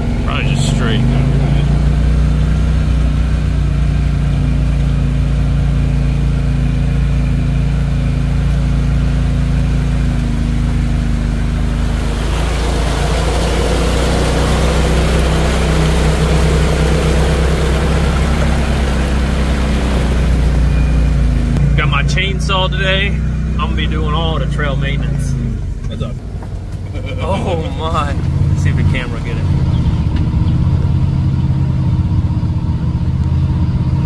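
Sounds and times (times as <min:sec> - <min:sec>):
utility vehicle engine running: 0:00.0 - 0:34.0.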